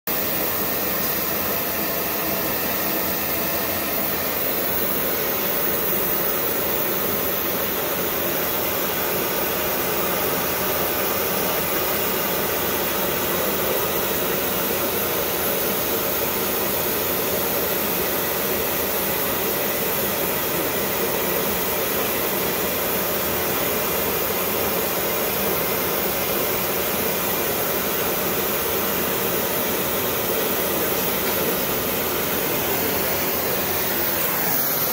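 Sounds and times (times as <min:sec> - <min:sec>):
flame spray torch hissing: 0:00.1 - 0:34.9.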